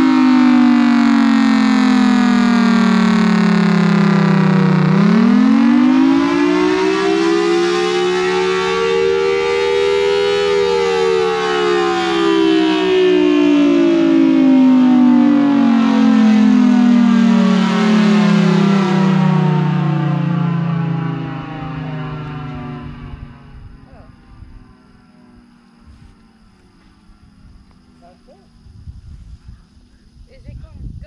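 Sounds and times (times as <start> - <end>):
tornado siren rising and falling: 0.0 - 30.4
steady lower tone: 0.0 - 30.5.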